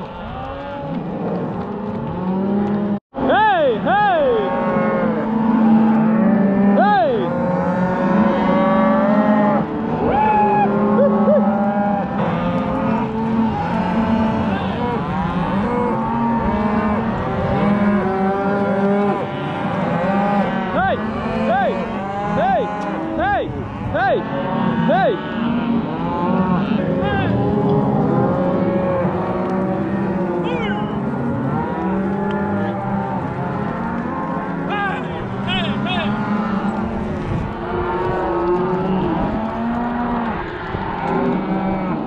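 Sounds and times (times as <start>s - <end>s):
cows and calves mooing: 0.0s - 42.0s.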